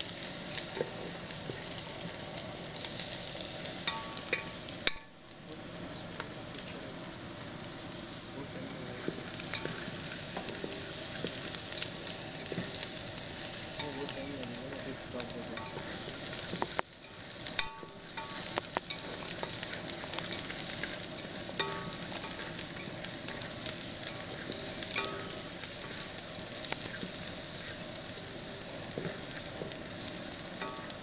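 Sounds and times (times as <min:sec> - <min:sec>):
onions sizzling in oil: 0:00.0 - 0:31.0.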